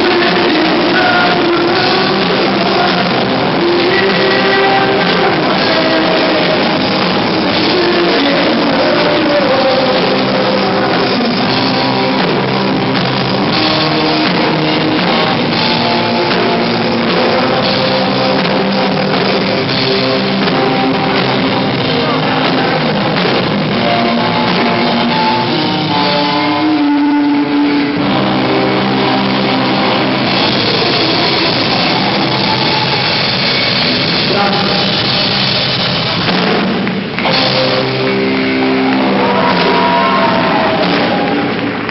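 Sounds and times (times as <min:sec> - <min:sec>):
rock band playing live: 0:00.0 - 0:41.9.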